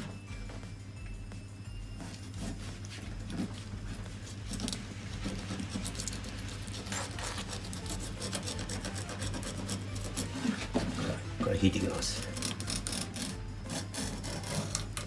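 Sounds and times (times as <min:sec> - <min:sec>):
knife scraping through fish: 0:02.0 - 0:11.2, 0:12.2 - 0:15.0.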